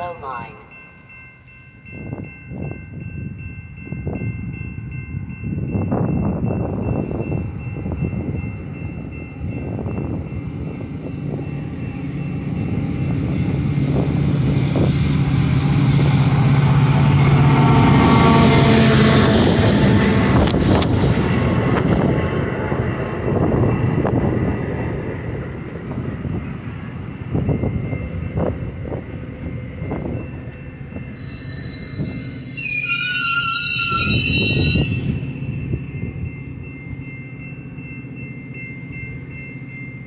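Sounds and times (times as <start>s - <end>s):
diesel locomotive engine: 0.0s - 40.0s
train coaches rolling by: 0.0s - 40.0s
train wheels on rails: 5.5s - 40.0s.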